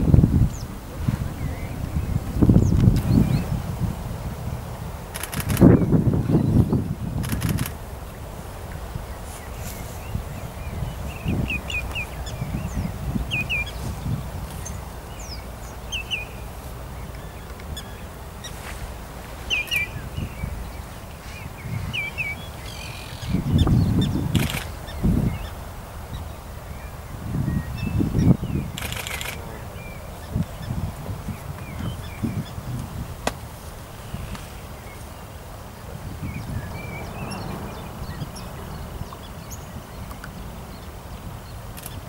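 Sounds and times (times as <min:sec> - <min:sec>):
birds double chirping: 0:00.0 - 0:03.6, 0:08.9 - 0:32.7, 0:34.0 - 0:42.0.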